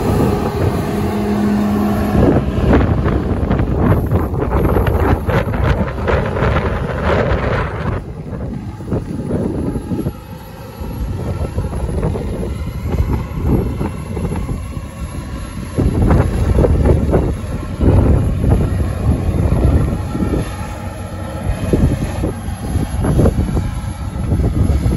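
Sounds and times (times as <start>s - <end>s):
diesel engine working under load: 0.0s - 24.9s
wind buffeting microphone: 0.0s - 24.9s.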